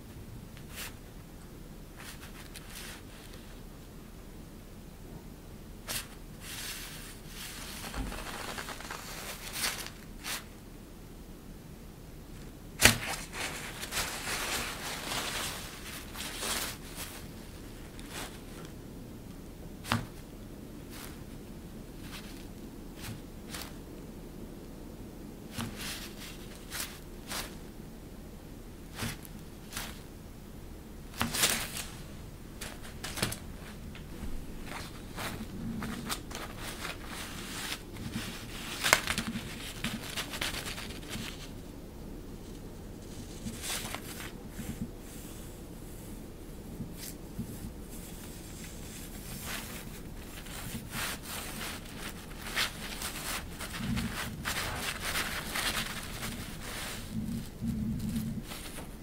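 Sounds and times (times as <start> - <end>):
cloth rustling and crinkling: 1.9 - 3.6, 5.9 - 10.6, 12.3 - 18.8, 19.8 - 23.9, 25.5 - 27.7, 28.8 - 30.2, 31.0 - 59.0.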